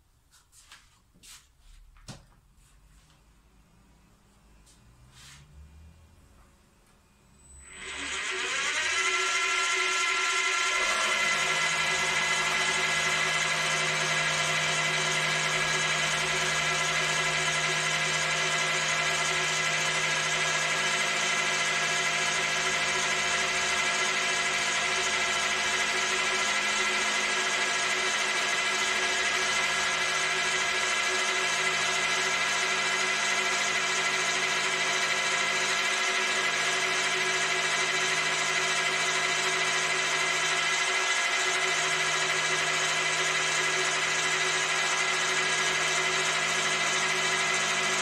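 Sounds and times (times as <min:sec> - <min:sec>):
milling machine motor whining: 0:03.6 - 0:48.0.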